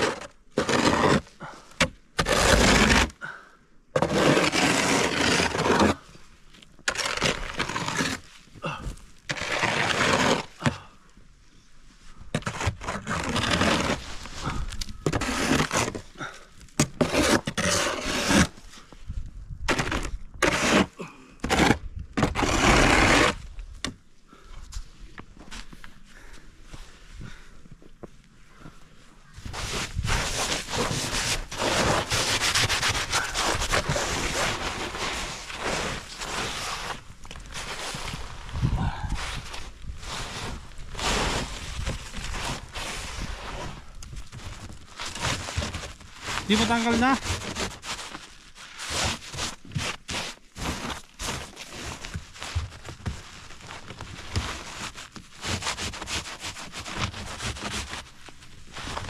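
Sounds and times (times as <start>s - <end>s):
scraping snow: 0.0s - 1.6s, 2.2s - 3.2s, 4.0s - 10.8s, 12.4s - 18.9s, 19.7s - 23.5s, 29.2s - 59.0s.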